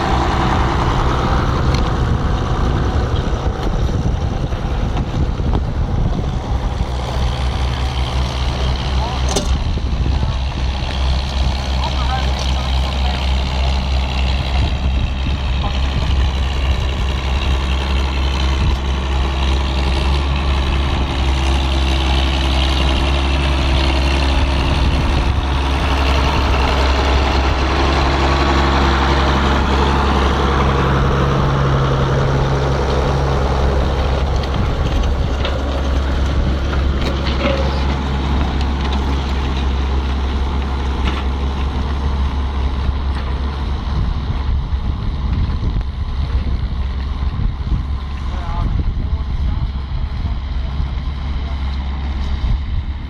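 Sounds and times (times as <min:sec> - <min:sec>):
tractor engines droning under load: 0:00.0 - 0:53.0.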